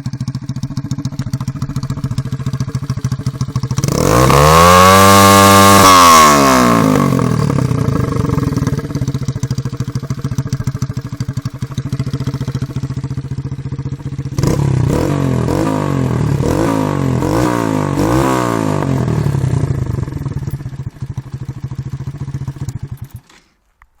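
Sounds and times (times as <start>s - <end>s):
motorcycle engine idling and revving: 0.0s - 23.5s.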